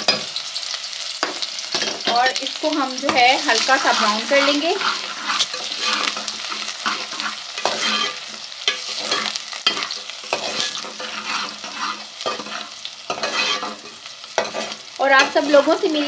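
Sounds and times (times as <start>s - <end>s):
onion sizzling in hot fat: 0.0s - 16.0s
stirring strokes in a pan: 1.3s - 16.0s.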